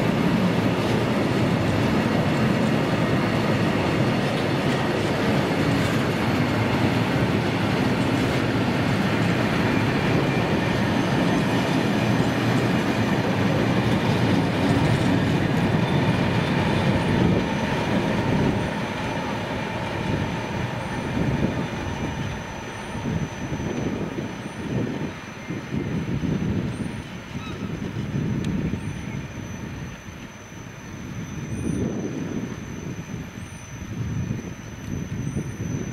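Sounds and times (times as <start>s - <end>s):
freight train wheels rattling: 0.0s - 35.9s.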